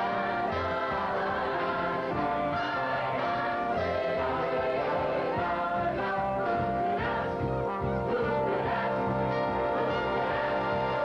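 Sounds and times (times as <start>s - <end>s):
band accompaniment: 0.0s - 11.0s
group singing show tune: 0.0s - 11.0s.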